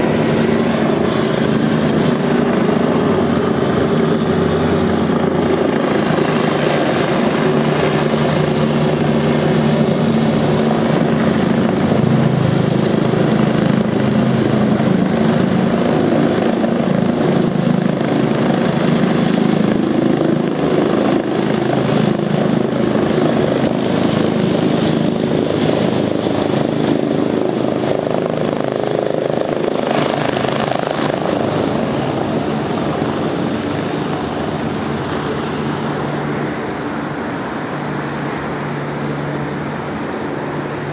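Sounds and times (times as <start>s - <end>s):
helicopter rotor drone: 0.0s - 40.9s.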